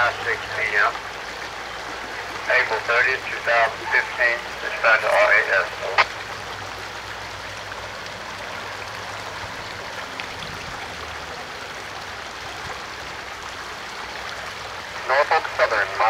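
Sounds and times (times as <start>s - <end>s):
creek rippling over rocks: 0.0s - 16.0s.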